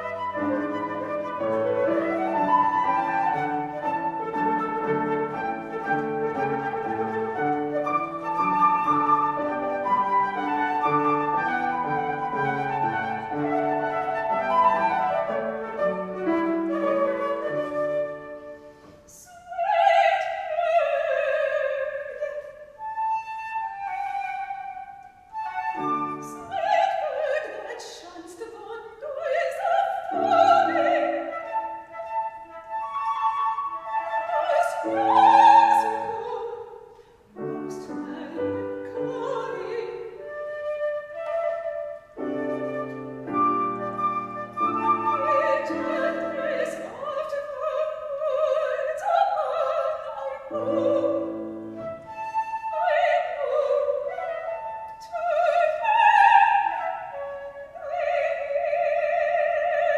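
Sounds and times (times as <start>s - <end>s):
flute: 0.0s - 59.9s
piano: 0.0s - 59.9s
soprano singing with vibrato: 0.0s - 59.9s.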